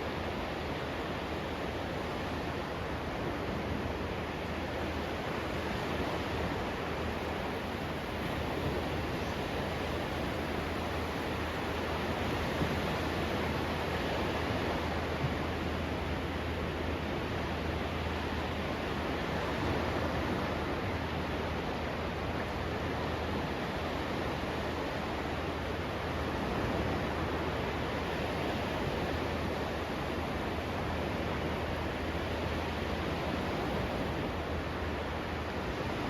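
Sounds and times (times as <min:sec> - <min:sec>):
sea surf: 0:00.0 - 0:36.0
wind: 0:00.0 - 0:36.0.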